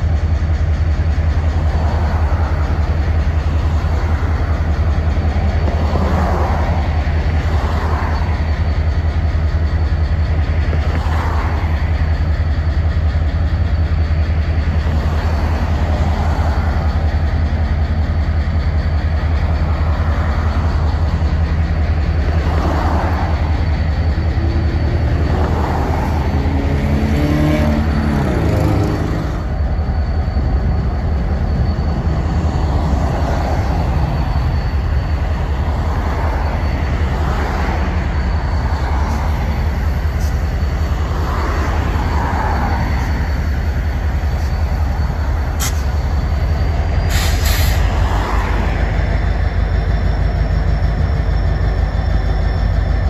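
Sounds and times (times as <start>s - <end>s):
diesel locomotive engine running: 0.0s - 53.0s
road traffic passing: 0.0s - 53.0s.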